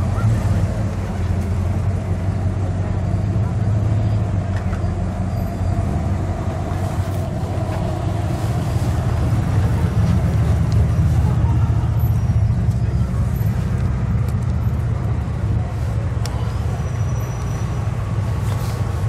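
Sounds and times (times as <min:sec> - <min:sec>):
cars driving slowly past: 0:00.0 - 0:19.0.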